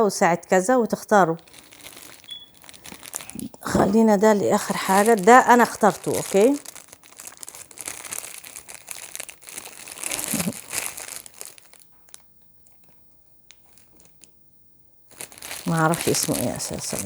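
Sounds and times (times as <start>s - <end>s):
packaging rustling and crinkling: 1.4s - 14.4s, 15.1s - 17.0s.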